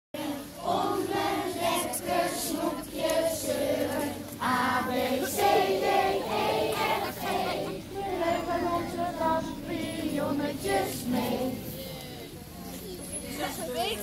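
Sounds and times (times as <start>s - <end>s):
crowd singing a song: 0.2s - 12.4s.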